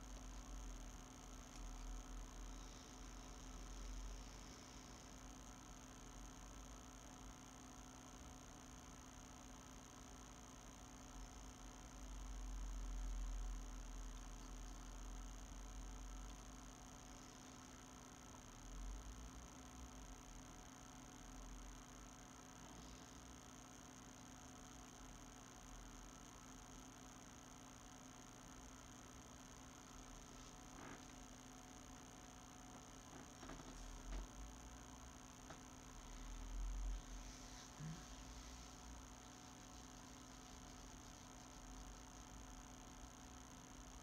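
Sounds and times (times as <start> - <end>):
faint electrical hum: 0.0 - 44.0.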